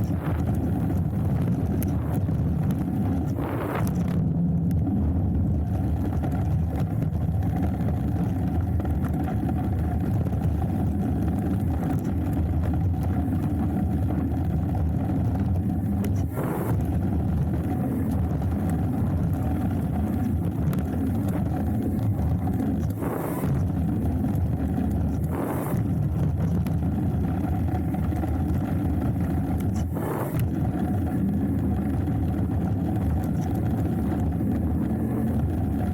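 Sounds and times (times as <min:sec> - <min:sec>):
bike tyres rolling on dirt: 0:00.0 - 0:35.9
wind buffeting microphone: 0:00.0 - 0:35.9.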